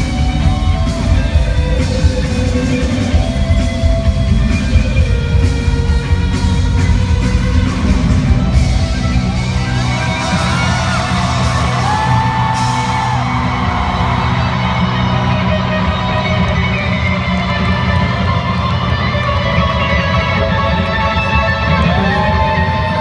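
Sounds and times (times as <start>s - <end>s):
band playing: 0.0s - 23.0s
electric guitar solo: 0.0s - 23.0s.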